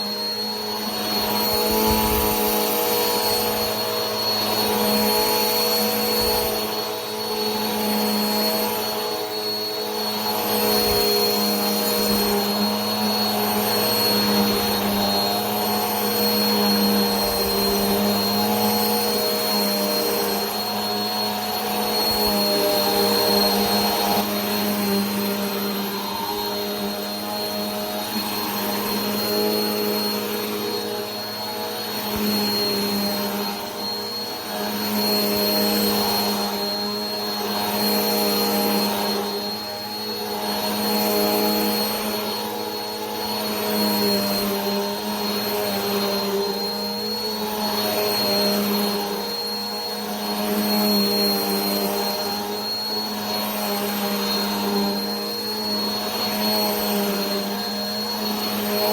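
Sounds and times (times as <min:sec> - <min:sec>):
vacuum cleaner motor humming: 0:00.0 - 0:58.9.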